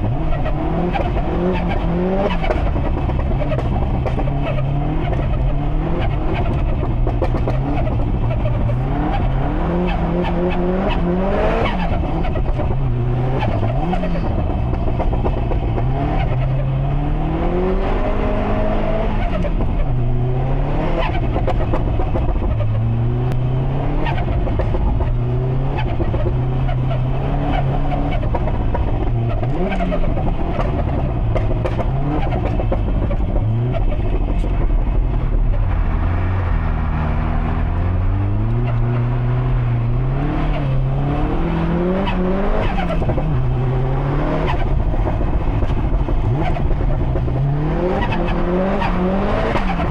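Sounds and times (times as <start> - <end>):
car engine revving hard: 0.0 - 34.6, 35.8 - 49.9.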